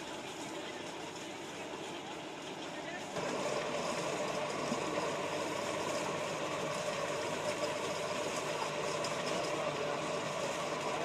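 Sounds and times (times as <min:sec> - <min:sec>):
paste machine running: 0:00.0 - 0:11.0.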